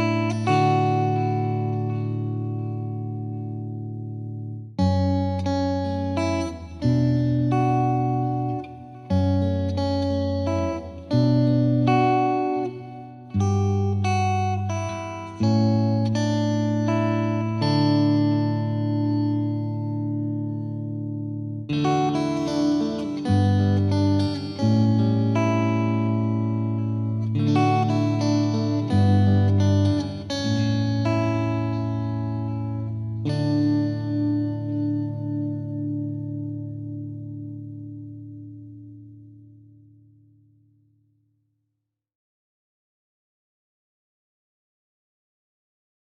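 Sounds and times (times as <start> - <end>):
plucked guitar-like instrument: 0.0 - 40.6.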